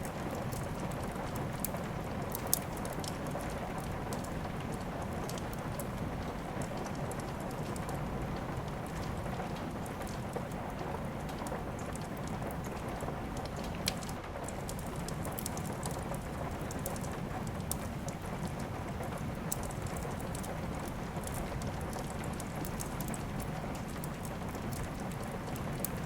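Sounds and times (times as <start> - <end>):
fireplace fire crackling: 0.0 - 26.0
steady rain hiss: 0.0 - 26.0.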